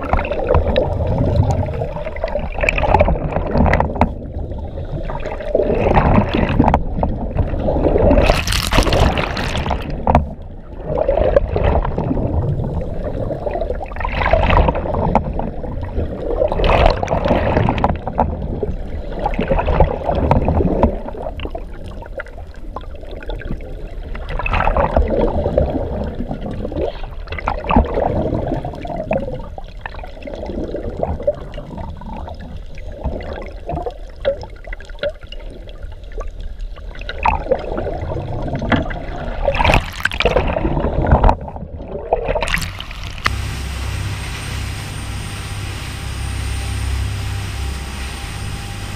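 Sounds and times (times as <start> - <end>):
underwater sloshing and gurgling: 0.0 - 48.9
water splashes: 0.0 - 48.9.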